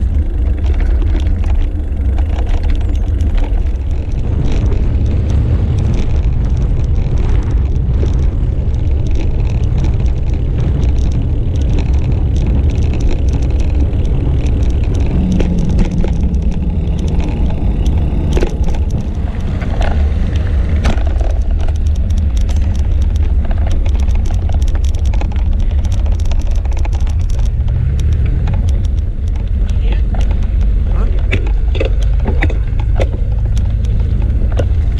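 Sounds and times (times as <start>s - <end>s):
bicycle clicks and rattles: 0.0s - 34.9s
wind and road noise: 0.0s - 34.9s.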